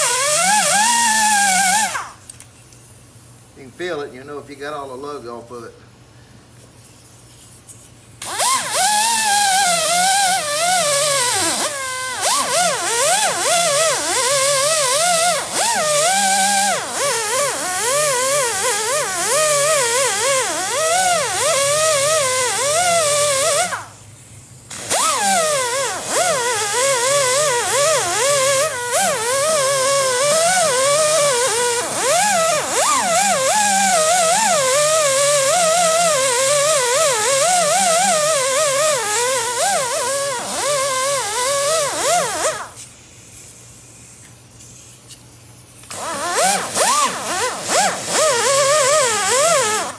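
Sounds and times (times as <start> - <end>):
power cutting tool cutting rubber: 0.0 - 2.2, 8.2 - 23.9, 24.7 - 42.9, 45.8 - 49.9.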